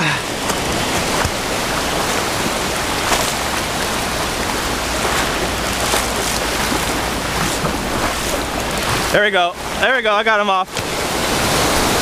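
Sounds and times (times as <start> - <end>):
surf washing over rocks: 0.0 - 12.0
water splashing: 0.0 - 12.0.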